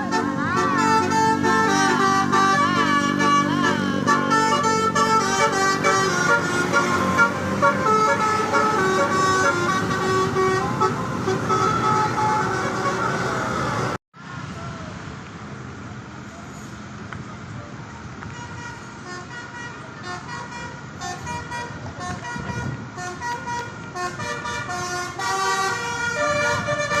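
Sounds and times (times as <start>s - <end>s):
bus horn playing a tune: 0.0s - 14.0s, 18.3s - 27.0s
bus engine: 0.0s - 27.0s
street and traffic noise: 0.0s - 27.0s.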